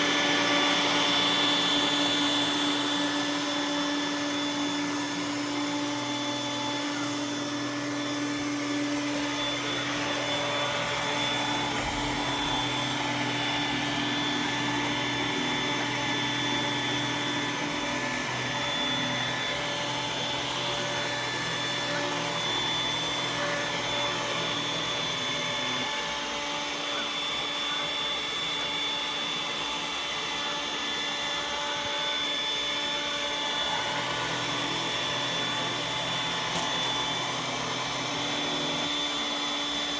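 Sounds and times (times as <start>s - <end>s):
robot vacuum motor whine: 0.0s - 39.9s.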